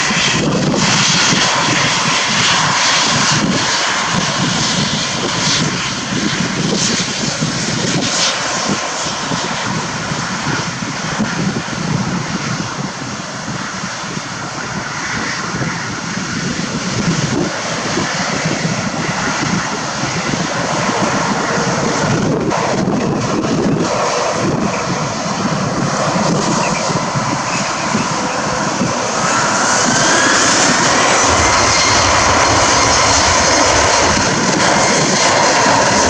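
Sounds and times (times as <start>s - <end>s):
jet airliner engines roaring: 0.0s - 36.0s.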